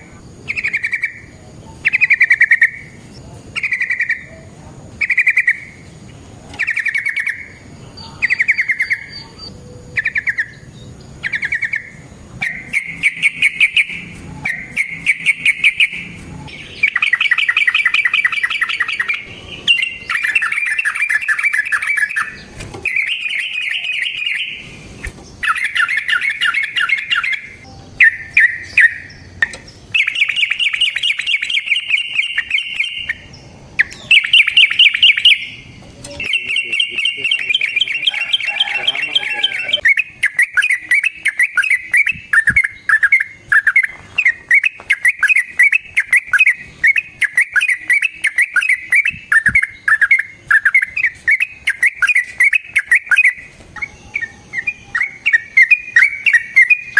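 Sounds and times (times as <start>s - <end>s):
bird singing chattering trills: 0.0s - 56.9s.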